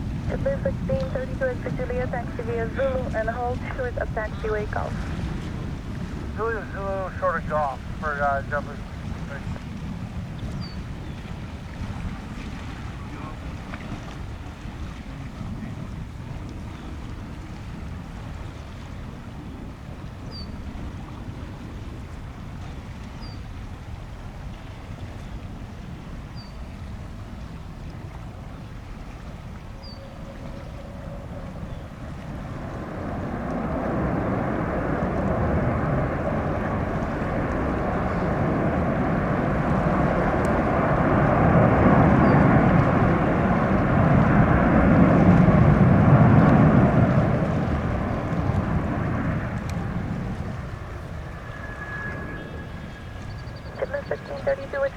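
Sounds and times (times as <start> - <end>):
jet airliner engines roaring: 0.0 - 54.9
low wind rumble: 0.0 - 54.9.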